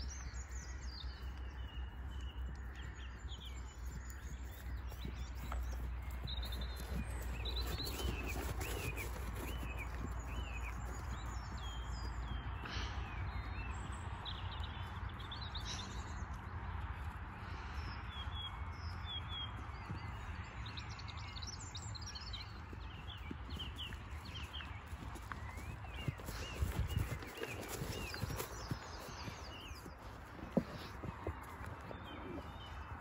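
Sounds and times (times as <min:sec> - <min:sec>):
horse hoofbeats on grass: 0:00.0 - 0:17.2, 0:18.7 - 0:33.0
low wind rumble: 0:00.0 - 0:33.0
small birds chirping: 0:00.0 - 0:33.0.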